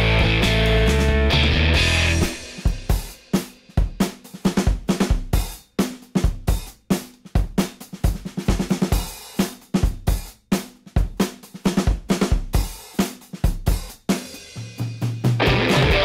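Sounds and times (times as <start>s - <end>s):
drum kit beat: 0.0s - 16.0s.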